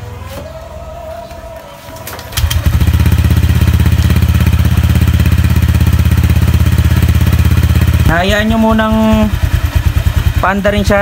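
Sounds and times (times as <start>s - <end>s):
scooter engine starting and idling: 2.0s - 11.0s.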